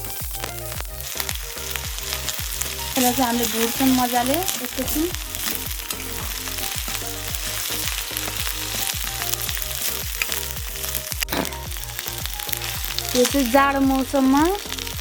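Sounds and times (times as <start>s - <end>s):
paste frying in hot oil: 0.0s - 15.0s.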